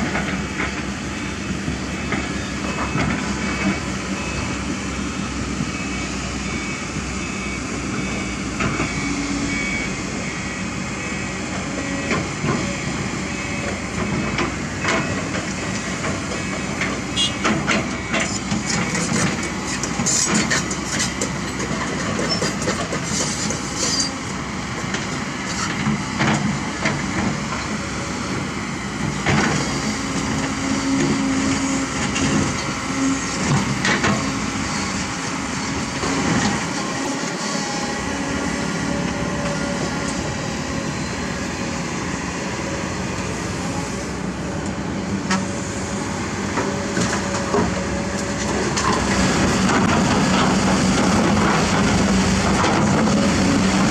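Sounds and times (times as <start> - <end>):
diesel machinery running: 0.0 - 53.9.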